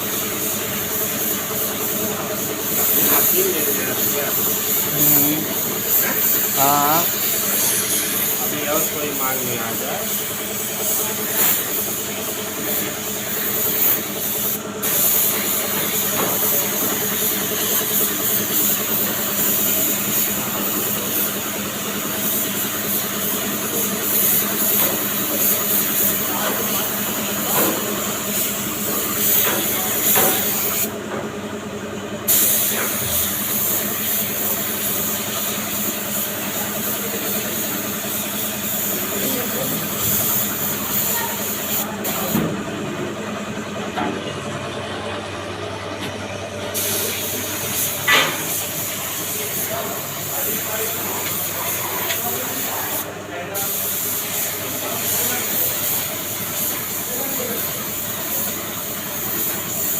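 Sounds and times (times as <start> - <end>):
paint spray gun hissing: 0.0 - 31.0, 32.3 - 42.5, 46.8 - 59.9.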